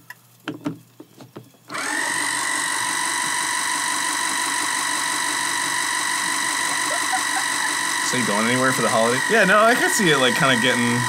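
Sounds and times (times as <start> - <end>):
small electric mixer motor whining: 1.7 - 11.0.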